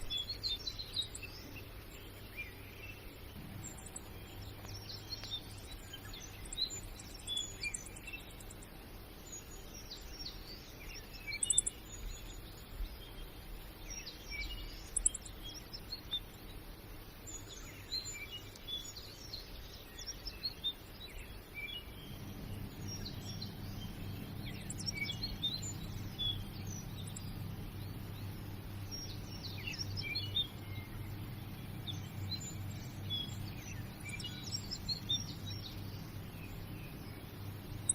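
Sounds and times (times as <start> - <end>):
background hiss: 0.0 - 37.9
low steady hum: 0.0 - 37.9
small birds chirping: 0.0 - 37.9.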